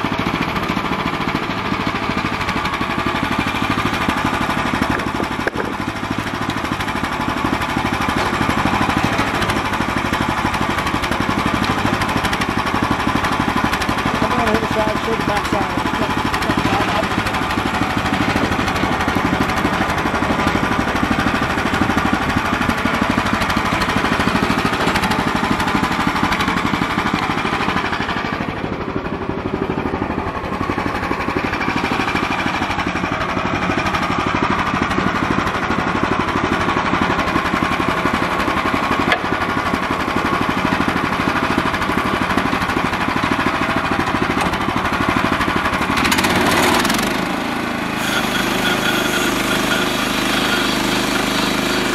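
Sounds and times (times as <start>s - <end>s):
sawmill engine running: 0.0s - 51.9s
band saw blade cutting log: 0.6s - 28.5s, 37.0s - 51.9s.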